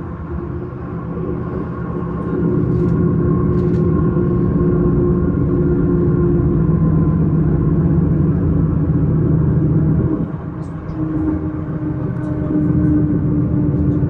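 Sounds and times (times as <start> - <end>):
electric train running: 0.0 - 14.0.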